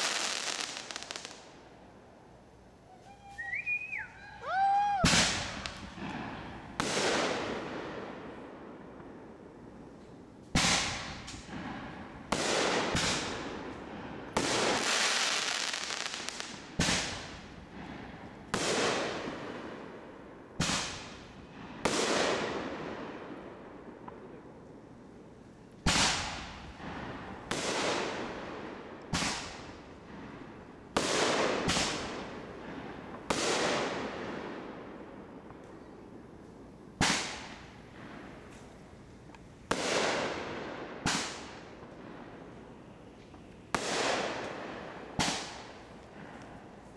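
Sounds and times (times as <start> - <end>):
fireworks bangs: 0.0 - 1.6, 3.1 - 9.2, 10.5 - 20.0, 20.6 - 24.4, 25.8 - 35.6, 37.0 - 38.9, 39.6 - 46.9.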